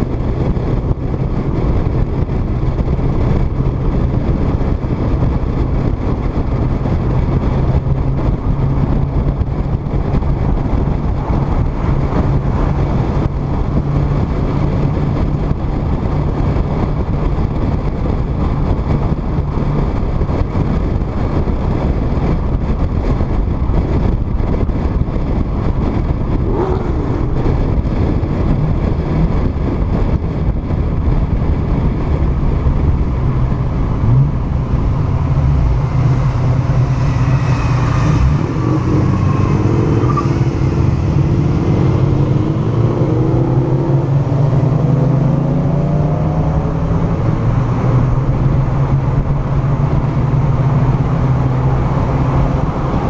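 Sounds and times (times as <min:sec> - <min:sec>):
car engine hum: 0:00.0 - 0:53.0
heavy wind rush: 0:00.0 - 0:53.0
road rumble: 0:00.0 - 0:53.0.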